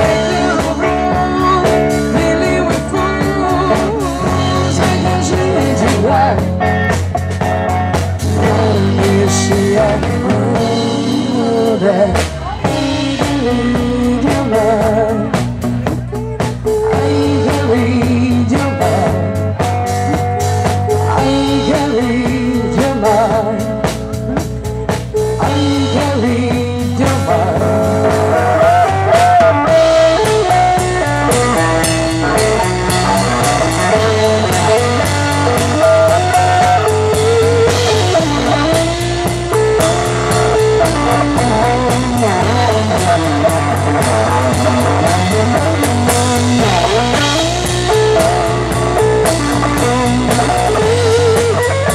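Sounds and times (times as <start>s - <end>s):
woman singing: 0.0s - 6.6s, 8.4s - 48.3s
blues rock band playing: 0.0s - 51.9s.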